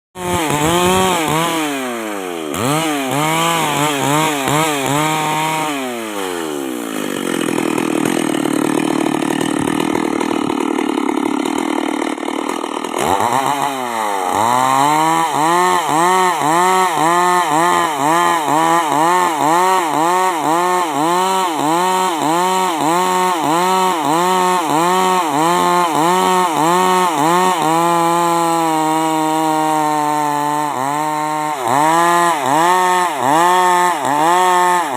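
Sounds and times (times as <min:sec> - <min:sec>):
chainsaw revving and cutting: 0:00.2 - 0:34.9.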